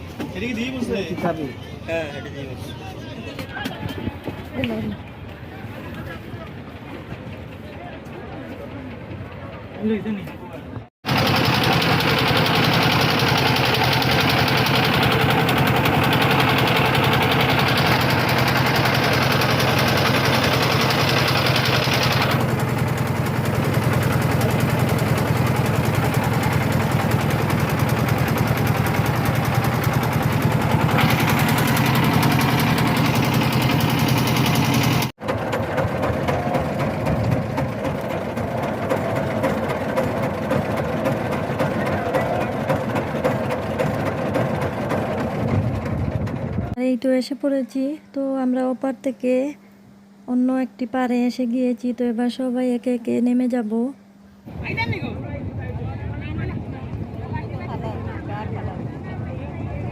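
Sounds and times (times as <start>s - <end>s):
boat engine humming: 0.0s - 46.8s, 54.0s - 59.9s.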